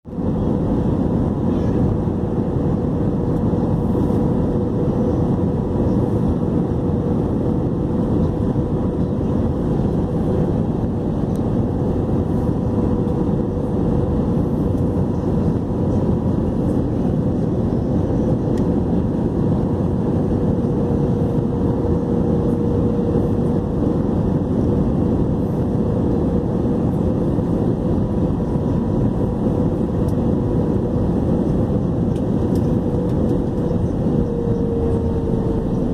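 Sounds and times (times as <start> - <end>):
jet engines roaring: 0.1 - 35.9.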